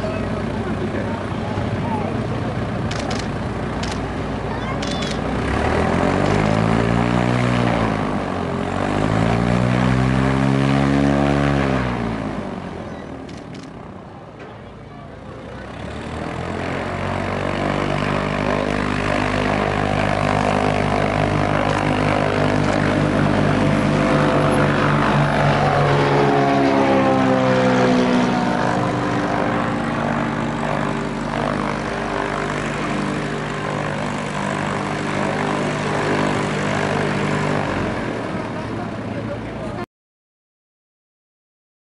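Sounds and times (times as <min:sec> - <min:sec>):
autogiro propeller droning by: 0:00.0 - 0:39.9.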